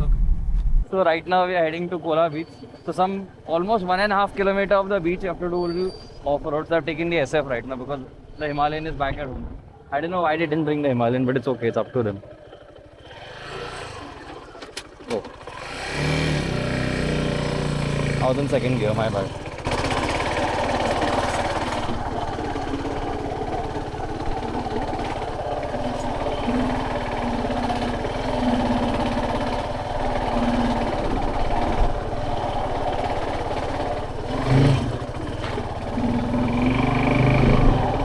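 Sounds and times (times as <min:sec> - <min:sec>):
motorcycle engine running: 0:01.7 - 0:08.4, 0:11.3 - 0:38.0.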